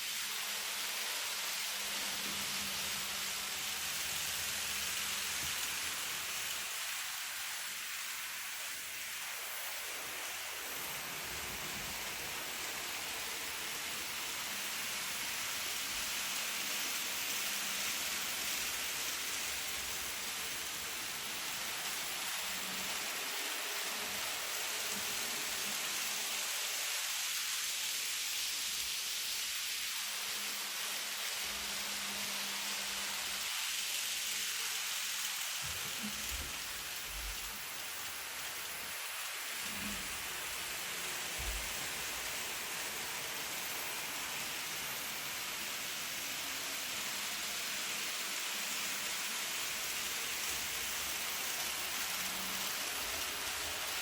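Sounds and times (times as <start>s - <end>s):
model train whirring hiss: 0.0s - 54.0s.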